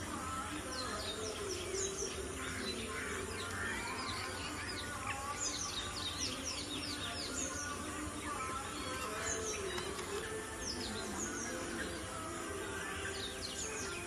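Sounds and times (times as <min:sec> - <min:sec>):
many birds chirping: 0:00.0 - 0:14.0
steady background hiss: 0:00.0 - 0:14.0.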